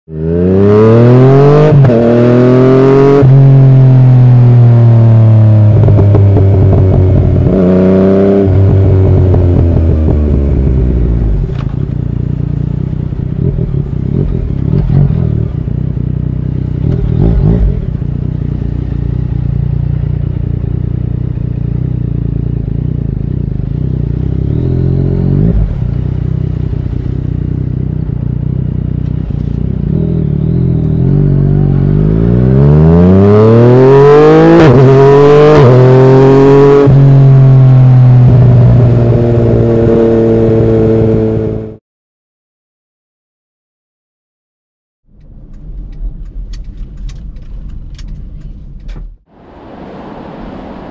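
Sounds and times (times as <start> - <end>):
motorcycle engine revving and idling: 0.1 - 41.8.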